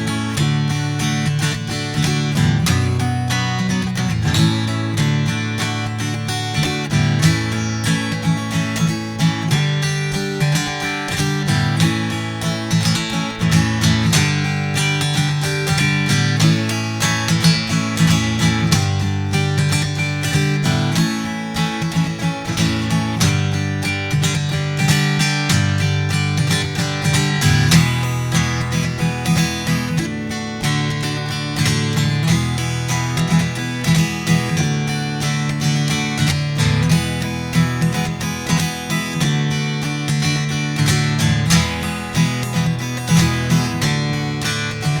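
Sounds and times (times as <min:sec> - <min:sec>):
acoustic guitar strummed: 0:00.0 - 0:45.0.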